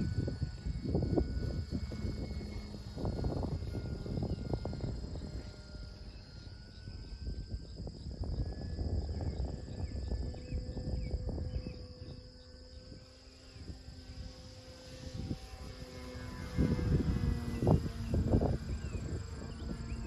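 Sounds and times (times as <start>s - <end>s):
insect trill: 0.0s - 20.0s
model plane motor whine: 0.0s - 20.0s
wind on microphone: 0.0s - 20.0s.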